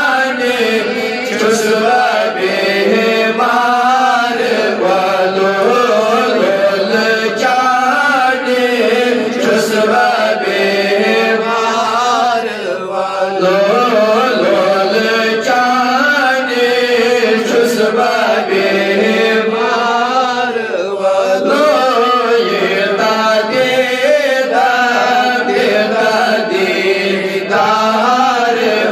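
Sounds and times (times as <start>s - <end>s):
man chanting into a microphone: 0.0s - 28.9s.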